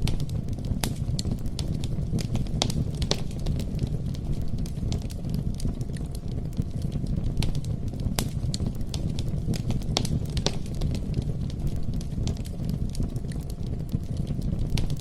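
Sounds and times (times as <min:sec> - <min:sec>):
campfire crackling and popping: 0:00.0 - 0:15.0
low rumble of flame: 0:00.0 - 0:15.0.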